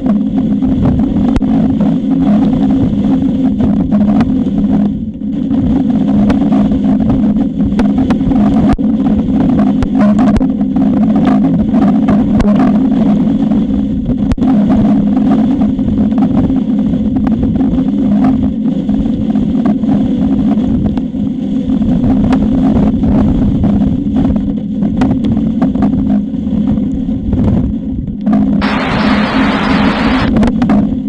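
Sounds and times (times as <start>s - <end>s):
crackles and knocks: 0.0s - 13.1s, 15.2s - 18.6s, 22.2s - 30.9s
steady low hum: 0.0s - 31.0s
wind buffeting microphone: 0.0s - 31.0s.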